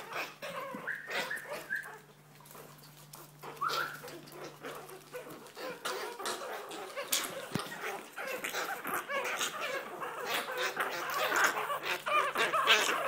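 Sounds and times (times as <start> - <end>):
animals scuffling in plastic basket: 0.0 - 13.0.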